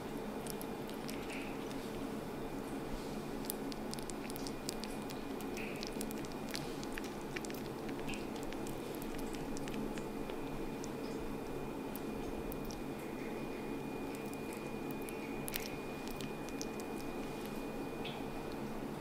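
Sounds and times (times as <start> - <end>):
kittens clicking and rustling: 0.4 - 2.1, 3.4 - 13.4, 14.1 - 18.6.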